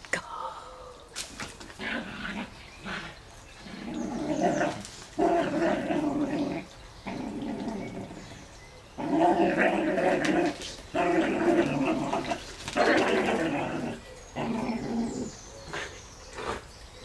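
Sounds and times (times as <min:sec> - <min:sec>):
dog play-growling: 0:01.6 - 0:16.7.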